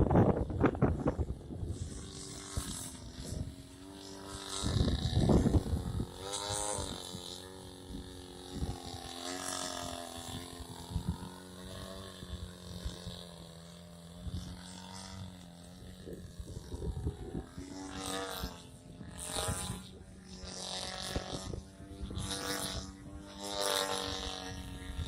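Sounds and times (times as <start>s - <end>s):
wind buffeting microphone: 0.0s - 9.2s, 10.0s - 25.0s.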